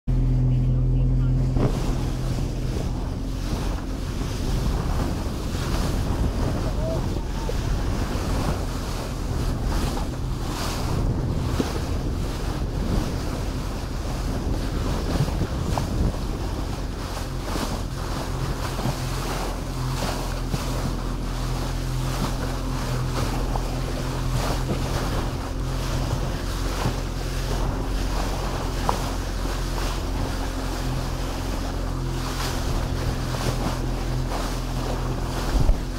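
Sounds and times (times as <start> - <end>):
motorboat engine drone: 0.1 - 35.9
water splashing along hull: 0.1 - 35.9
wind buffeting microphone: 0.2 - 35.9.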